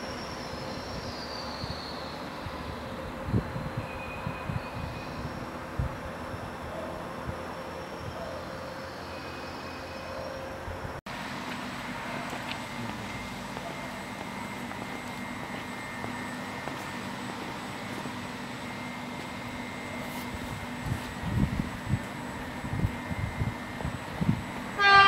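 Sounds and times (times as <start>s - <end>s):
background drone: 0.0s - 25.0s
electric train hum and whine: 0.0s - 25.0s.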